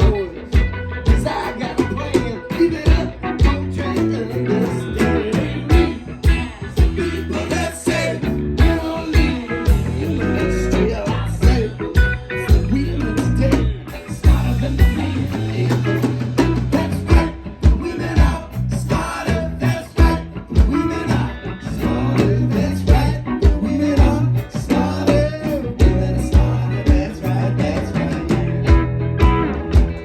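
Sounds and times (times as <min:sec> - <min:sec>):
live band playing calypso: 0:00.0 - 0:30.0.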